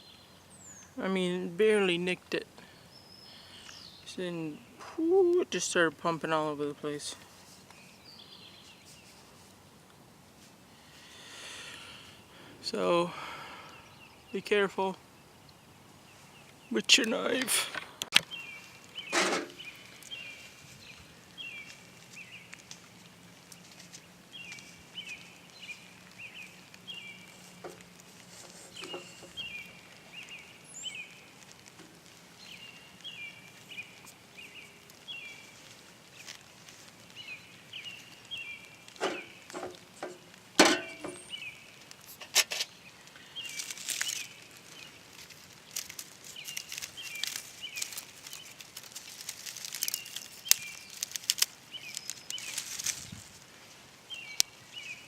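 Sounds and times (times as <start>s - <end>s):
light crackling: 0.0s - 55.0s.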